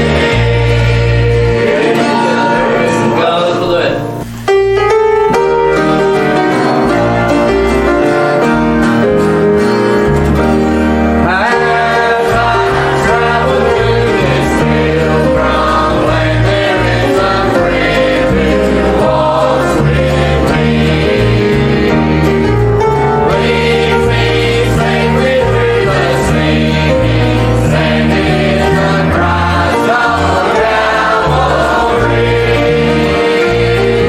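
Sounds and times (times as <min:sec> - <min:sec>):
gospel singing: 0:00.0 - 0:04.4, 0:05.3 - 0:10.4, 0:11.0 - 0:34.0
keyboard and bass accompaniment: 0:00.0 - 0:34.0.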